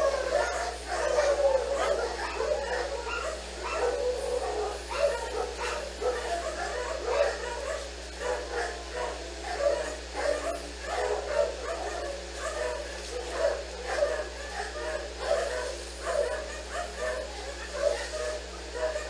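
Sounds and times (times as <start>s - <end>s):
dogs howling and yipping: 0.0s - 19.0s.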